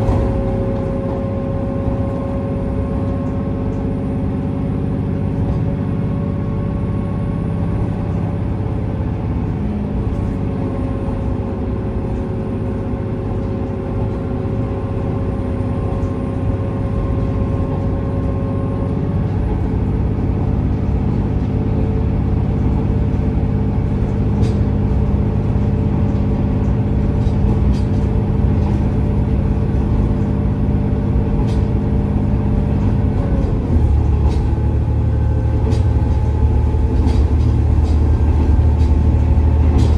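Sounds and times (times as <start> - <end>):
diesel engine droning: 0.0 - 39.9
train running gear rumble: 0.0 - 39.9.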